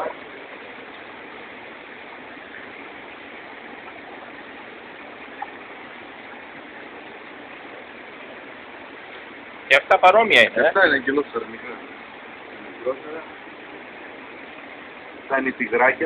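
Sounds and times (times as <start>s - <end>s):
aquarium water circulating: 0.0s - 16.0s.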